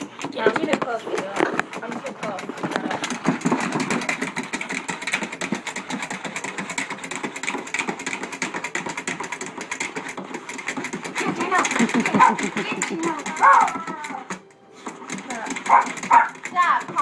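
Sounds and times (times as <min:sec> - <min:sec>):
dog pawing at a drum: 0:00.0 - 0:17.0.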